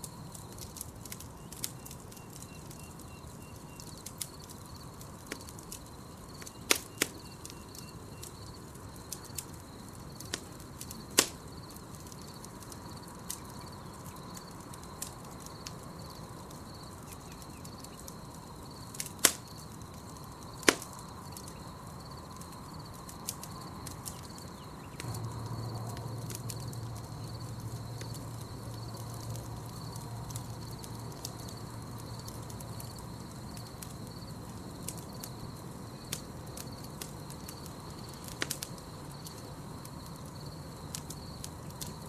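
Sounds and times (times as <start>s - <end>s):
campfire crackling: 0.0s - 42.0s
insect trill: 0.0s - 42.0s
sharp pops of fire: 0.0s - 42.0s.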